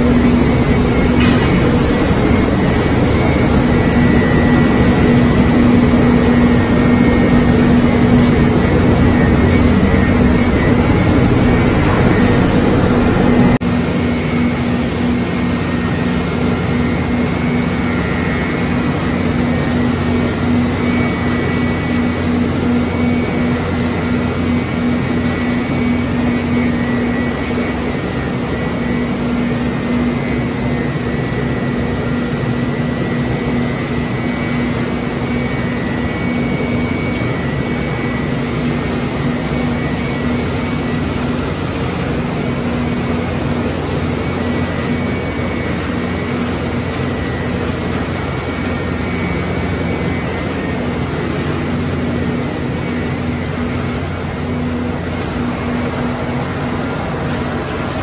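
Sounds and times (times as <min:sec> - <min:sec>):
faint high whine: 0:00.0 - 0:58.0
low hum: 0:00.0 - 0:58.0
machinery drone: 0:00.0 - 0:58.0.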